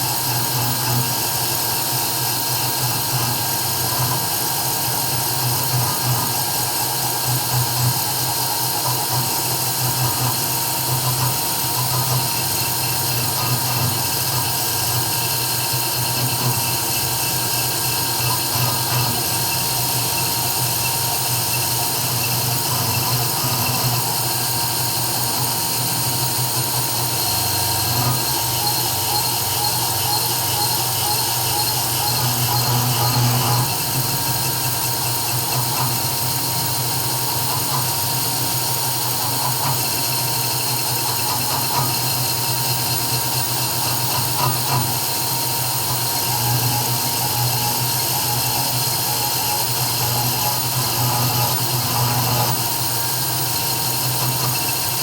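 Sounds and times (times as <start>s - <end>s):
spindle motor whine: 0.0s - 55.0s.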